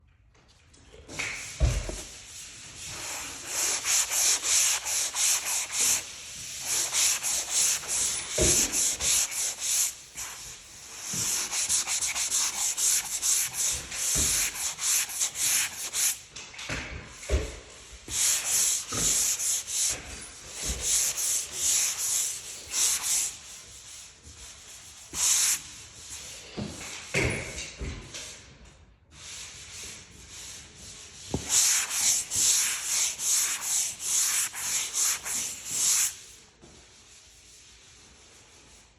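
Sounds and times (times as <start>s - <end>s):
hand sanding wall: 1.2s - 16.3s, 17.4s - 27.0s, 29.1s - 38.9s.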